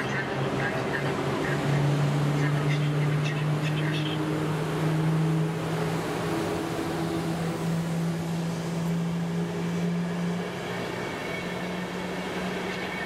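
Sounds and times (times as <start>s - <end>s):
train low hum: 0.0s - 13.0s.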